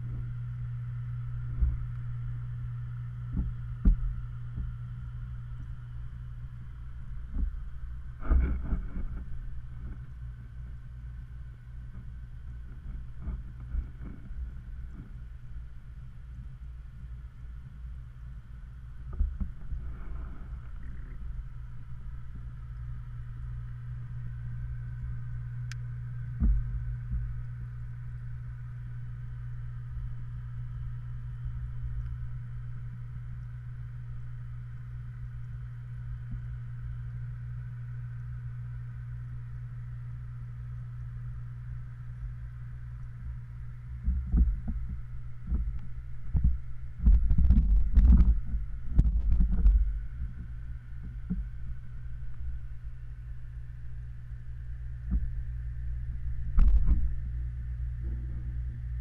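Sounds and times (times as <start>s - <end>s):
underwater low hum: 0.0s - 59.0s
underwater rumble of water: 0.0s - 59.0s.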